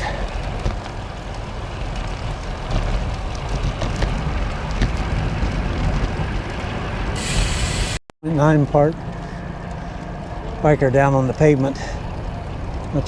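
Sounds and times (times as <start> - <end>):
small crackles and ticks: 0.0 - 7.1, 8.4 - 13.0
bicycle road noise: 0.0 - 13.0.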